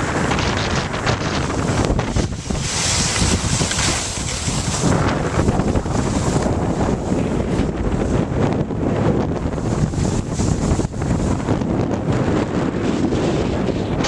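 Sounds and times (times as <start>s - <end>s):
skis sliding over snow: 0.0s - 14.0s
wind rushing over microphone: 0.0s - 14.0s.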